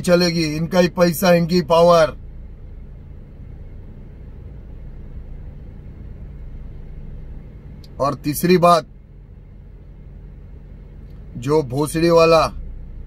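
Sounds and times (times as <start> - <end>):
car engine rumble from inside cabin: 0.0 - 13.0.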